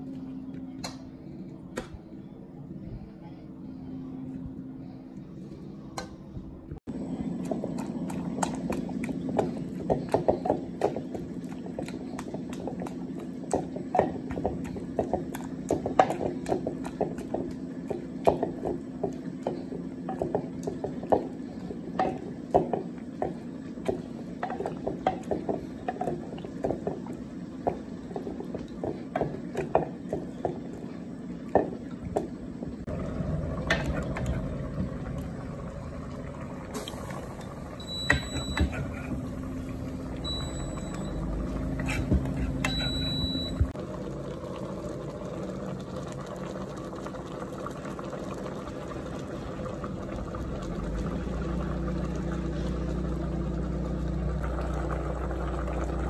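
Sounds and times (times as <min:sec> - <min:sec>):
low hum: 0:00.0 - 0:28.8, 0:29.8 - 0:56.0.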